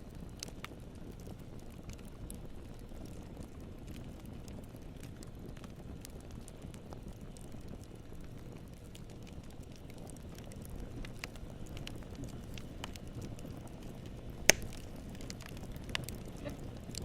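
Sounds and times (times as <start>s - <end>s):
campfire rumble: 0.0s - 17.0s
wood popping and crackling: 0.0s - 17.0s.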